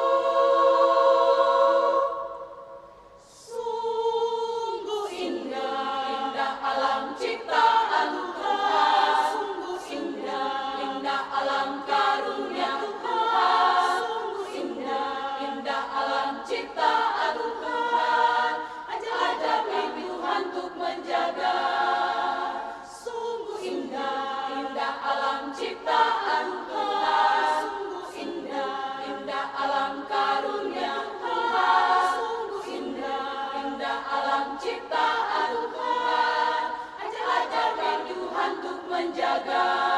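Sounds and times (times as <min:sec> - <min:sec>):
women's choir singing: 0:00.0 - 0:39.9.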